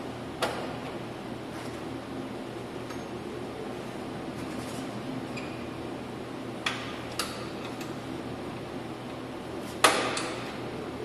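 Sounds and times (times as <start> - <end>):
steady shop hum: 0.0 - 11.0.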